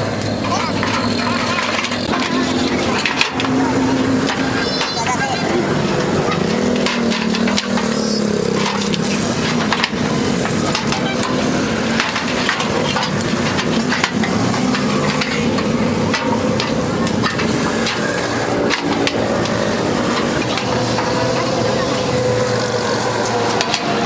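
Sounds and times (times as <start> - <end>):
metalwork crackling and knocks: 0.0 - 24.0.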